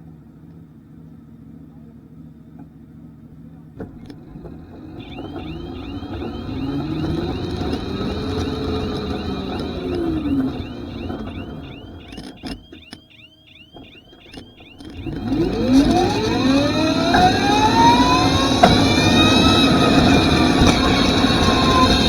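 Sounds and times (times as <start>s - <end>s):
electric motorcycle motor whine: 3.8s - 22.0s.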